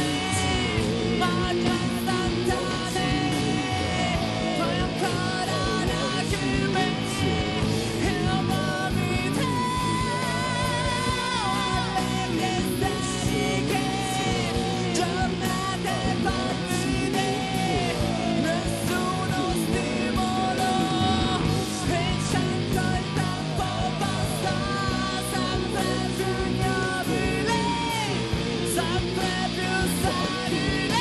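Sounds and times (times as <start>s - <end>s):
drums: 0.0s - 31.0s
electric guitar: 0.0s - 31.0s
man singing into microphone: 0.0s - 31.0s.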